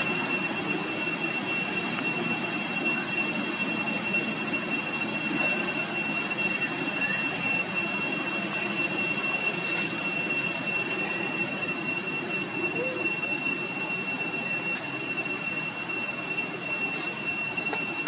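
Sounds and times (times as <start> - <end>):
night insect chorus: 0.0 - 18.0.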